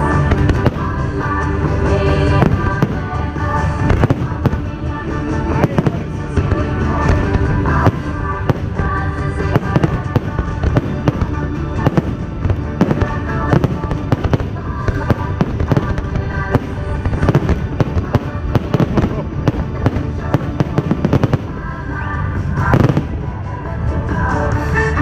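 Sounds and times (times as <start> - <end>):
fireworks bangs and cracks: 0.0 - 1.3, 2.3 - 4.8, 5.5 - 21.7, 22.6 - 23.2
loud music playing: 0.0 - 25.0.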